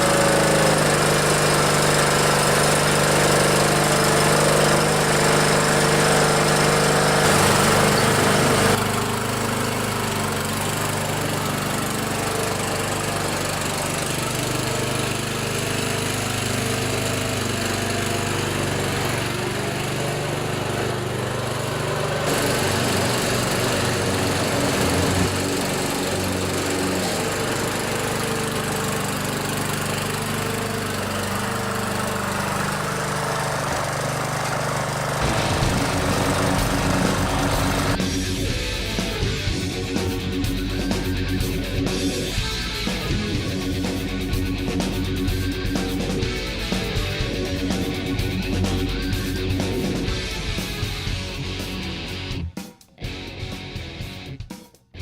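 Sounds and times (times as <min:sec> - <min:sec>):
lawnmower engine running: 0:00.0 - 0:52.3.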